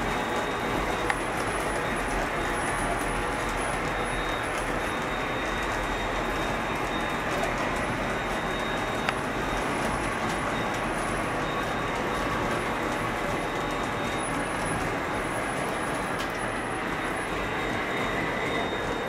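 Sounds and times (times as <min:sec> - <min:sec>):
thin steady whine: 0:00.0 - 0:19.0.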